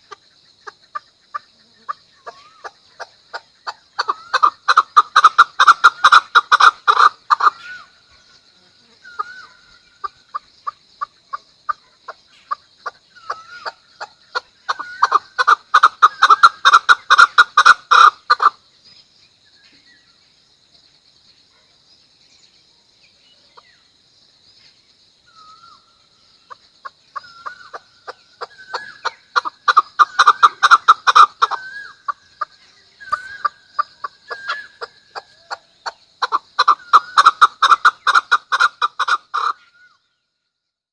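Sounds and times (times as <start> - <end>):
partridge chuck calls: 0.0 - 18.7, 25.3 - 40.1.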